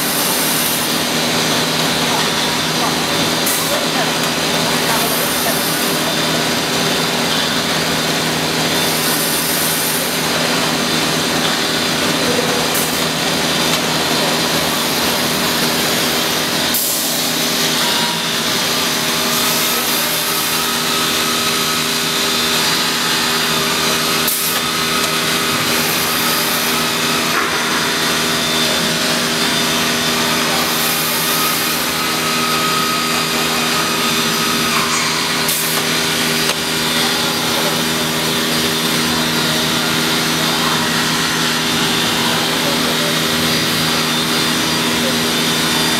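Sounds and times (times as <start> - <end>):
router spindle cutting wood: 0.0 - 45.9.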